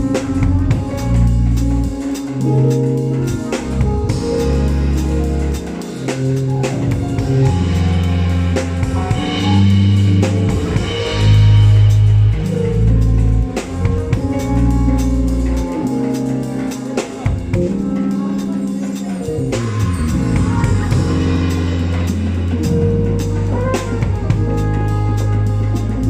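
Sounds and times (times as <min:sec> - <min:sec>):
bass notes: 0:00.0 - 0:26.0
drum kit beat: 0:00.0 - 0:26.0
guitar: 0:00.0 - 0:26.0.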